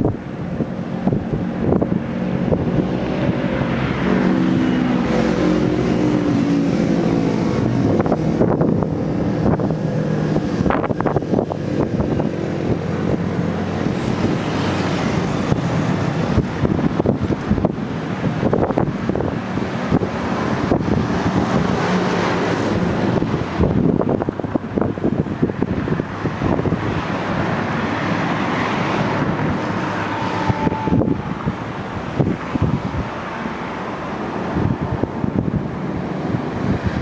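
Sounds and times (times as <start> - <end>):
jet engine and airflow noise: 0.0 - 37.0.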